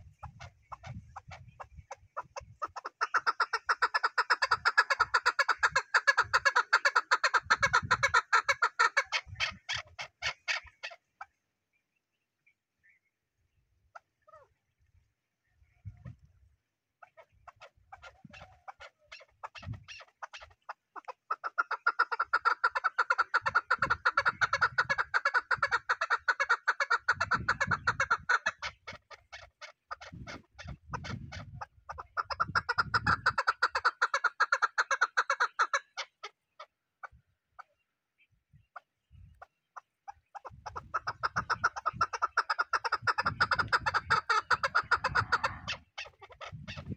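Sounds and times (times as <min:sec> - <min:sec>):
partridge clucking calls: 0:00.0 - 0:11.4, 0:17.0 - 0:37.8, 0:38.5 - 0:46.9.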